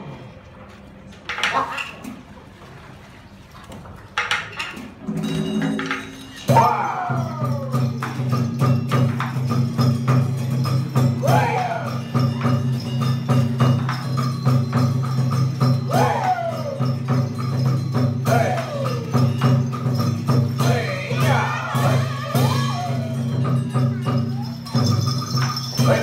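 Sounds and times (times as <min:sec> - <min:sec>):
wood block strikes: 0:04.2 - 0:26.0
drum strikes: 0:05.0 - 0:26.0.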